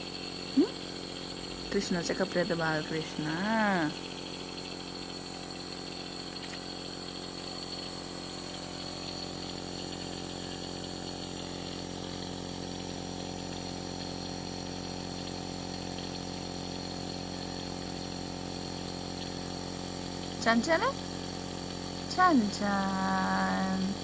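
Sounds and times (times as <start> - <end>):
nebulizer humming: 0.0 - 7.3, 8.0 - 24.0.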